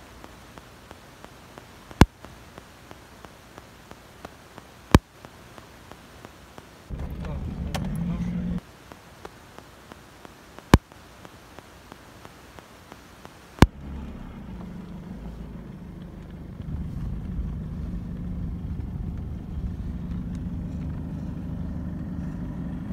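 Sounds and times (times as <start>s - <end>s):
sharp clicks: 0.0s - 21.0s
faint regular ticking: 0.0s - 22.6s
engine and road rumble: 0.0s - 22.9s.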